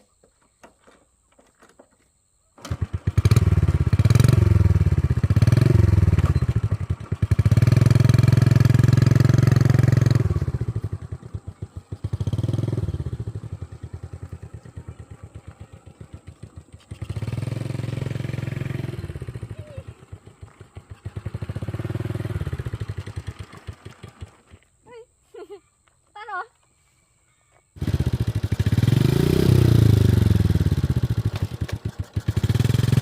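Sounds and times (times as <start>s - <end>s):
motorbike engine revving: 2.6s - 24.6s, 27.8s - 33.0s.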